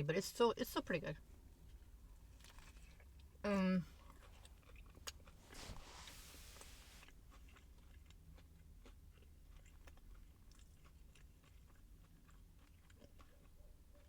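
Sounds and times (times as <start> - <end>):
crunchy chewing: 1.6 - 14.0.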